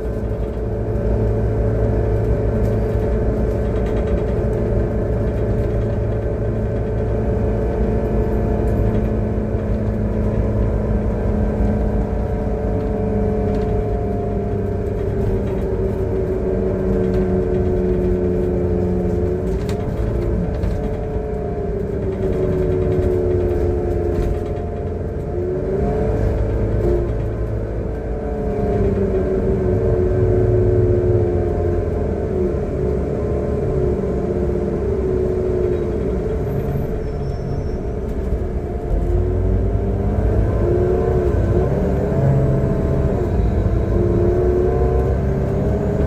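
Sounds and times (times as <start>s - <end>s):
bus engine droning with whine: 0.0s - 46.0s.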